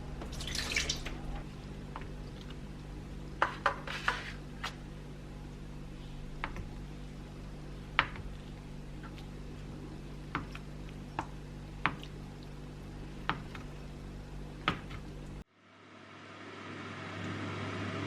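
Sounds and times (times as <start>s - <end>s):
wet liquid kitchen sounds: 0.0s - 15.5s
steady low hum: 0.0s - 18.0s.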